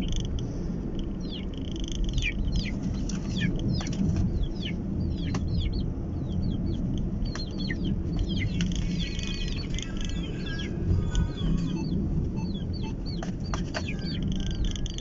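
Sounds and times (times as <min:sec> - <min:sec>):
birds chirping: 0:00.0 - 0:00.3, 0:01.0 - 0:15.0
car rumbling on road: 0:00.0 - 0:15.0.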